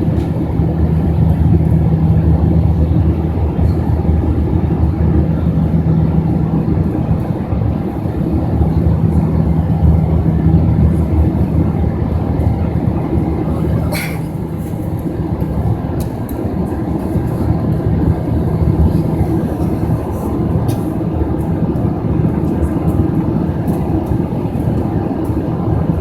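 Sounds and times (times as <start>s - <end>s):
jet engine cabin drone: 0.0s - 26.0s.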